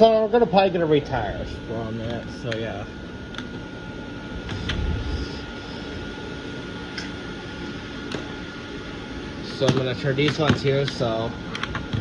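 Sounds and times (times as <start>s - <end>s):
electric fans rushing air: 0.0s - 12.0s
thin motor whine: 0.0s - 12.0s.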